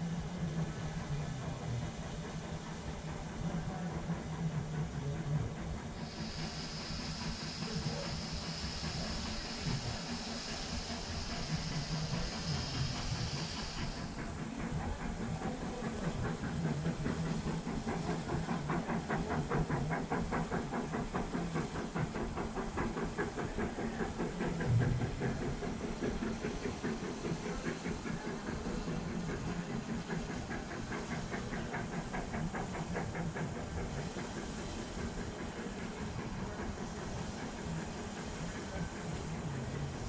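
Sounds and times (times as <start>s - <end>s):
steam hiss: 0.0s - 40.0s
steam locomotive chuffing: 0.0s - 40.0s.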